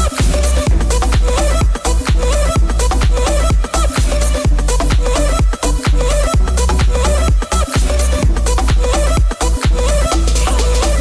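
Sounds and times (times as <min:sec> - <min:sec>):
pop dance music: 0:00.0 - 0:11.0.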